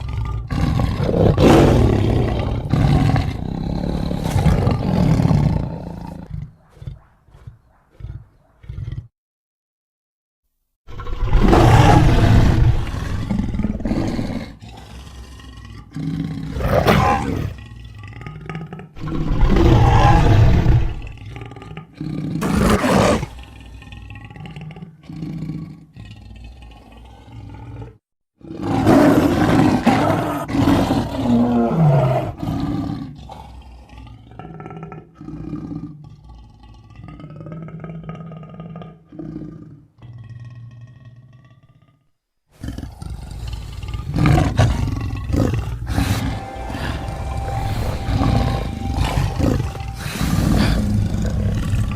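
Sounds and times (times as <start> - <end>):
lion roaring: 0.0 - 9.1, 10.9 - 51.9.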